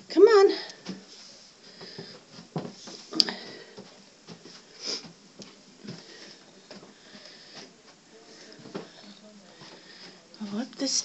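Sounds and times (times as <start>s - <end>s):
footsteps climbing stairs: 1.7s - 11.0s.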